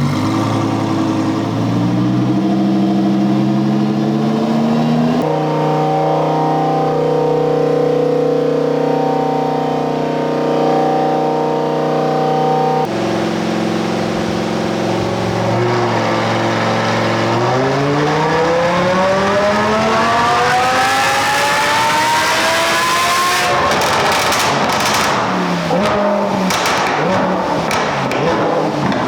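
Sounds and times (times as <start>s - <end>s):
sports car engine revving: 0.0s - 29.0s.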